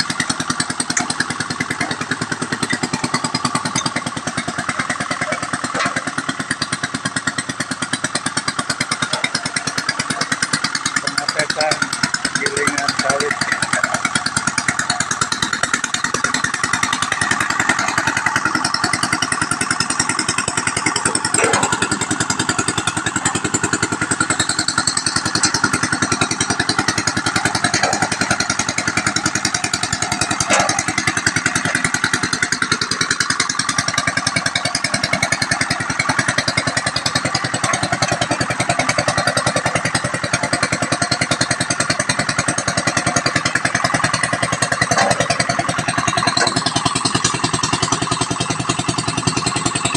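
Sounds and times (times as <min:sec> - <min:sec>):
engine chugging: 0:00.0 - 0:49.9.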